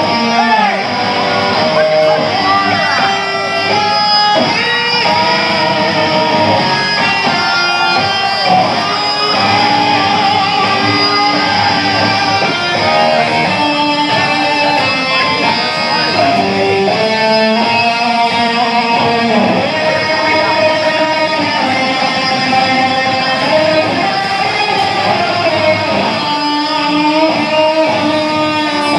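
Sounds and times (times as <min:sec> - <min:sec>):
live rock band playing: 0:00.0 - 0:28.9.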